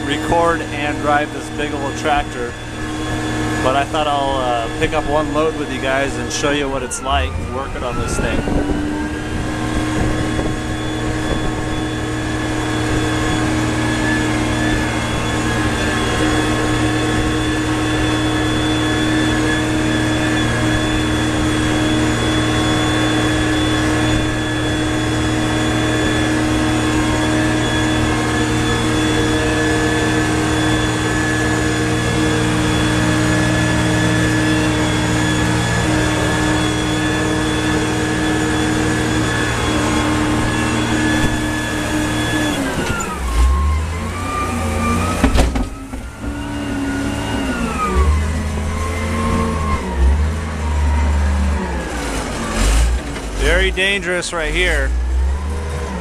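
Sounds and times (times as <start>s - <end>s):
loader engine droning: 0.0s - 56.0s.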